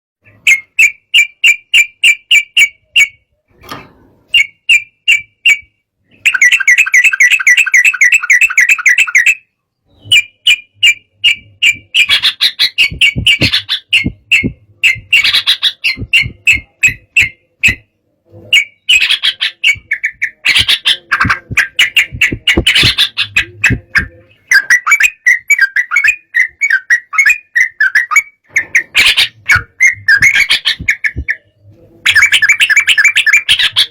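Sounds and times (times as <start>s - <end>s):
bird singing sharp chirps and trills: 4.3s - 33.9s.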